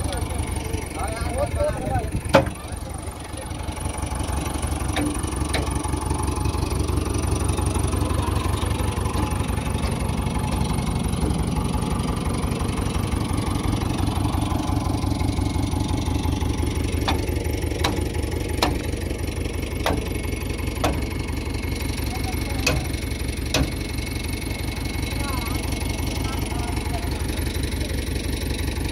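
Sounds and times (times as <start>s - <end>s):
diesel engine rumbling: 0.0s - 28.9s.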